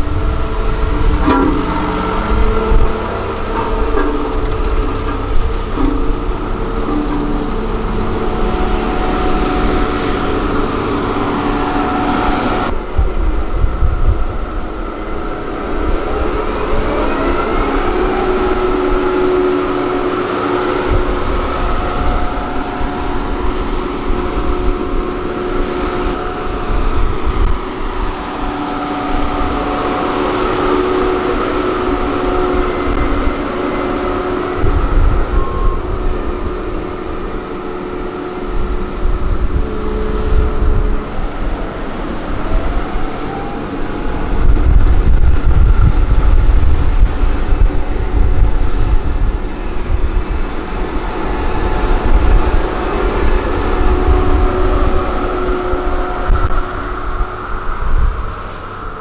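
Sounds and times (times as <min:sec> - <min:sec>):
road roller engine drone: 0:00.0 - 0:59.0
whining tones: 0:00.0 - 0:59.0.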